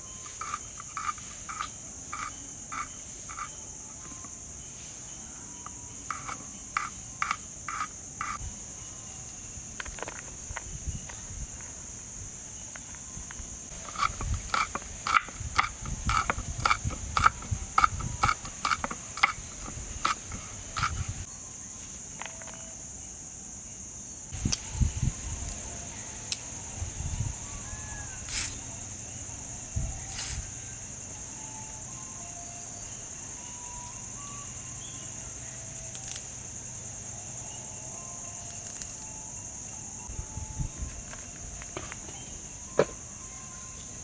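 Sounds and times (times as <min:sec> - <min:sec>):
high-pitched insect drone: 0:00.0 - 0:23.2, 0:23.9 - 0:44.0.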